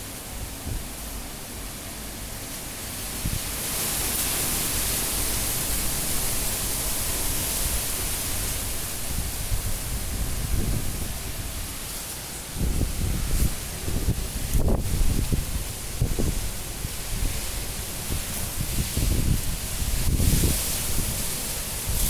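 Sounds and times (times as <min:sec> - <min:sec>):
strong gusting wind: 0:00.0 - 0:22.0.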